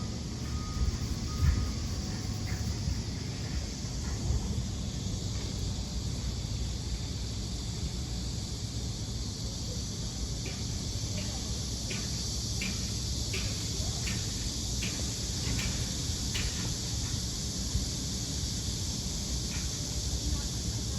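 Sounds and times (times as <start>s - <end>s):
high-pitched insect chorus: 0.0s - 20.9s.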